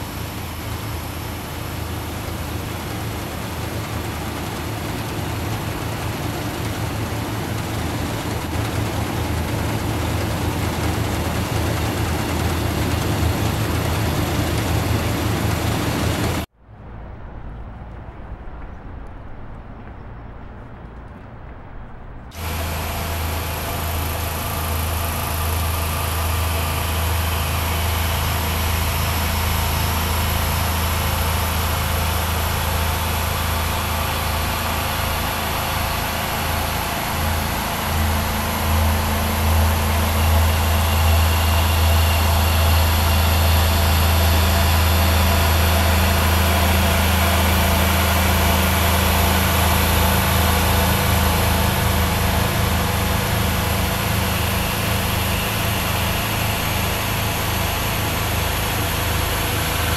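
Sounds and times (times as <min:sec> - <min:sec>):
constant rushing noise: 0:00.0 - 0:59.9
low machinery hum: 0:00.0 - 0:59.9.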